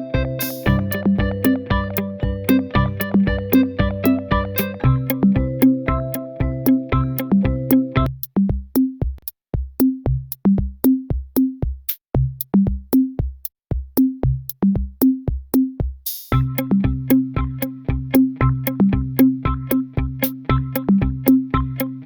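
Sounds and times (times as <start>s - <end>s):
electronic music with drum beat: 0.0s - 22.0s.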